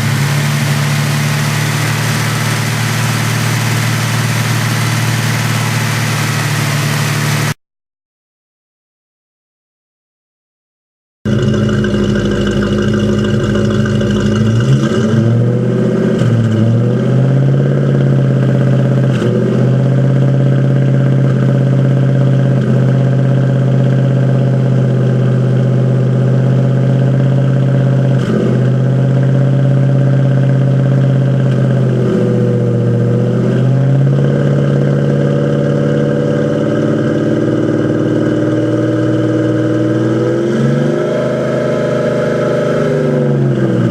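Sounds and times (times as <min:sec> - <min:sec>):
car engine idling with misfire: 0:00.0 - 0:07.6, 0:11.3 - 0:40.4.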